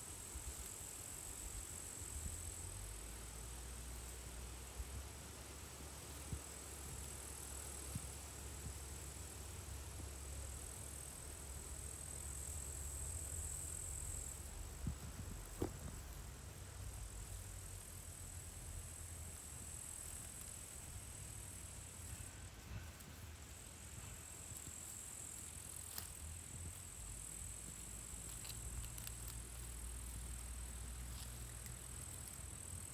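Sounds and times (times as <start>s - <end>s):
insects trilling: 0.0s - 32.9s.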